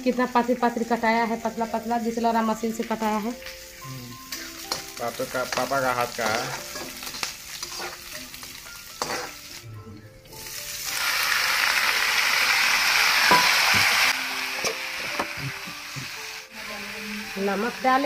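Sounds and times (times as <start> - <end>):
vegetables sizzling in hot oil: 0.0 - 9.7, 10.3 - 18.0.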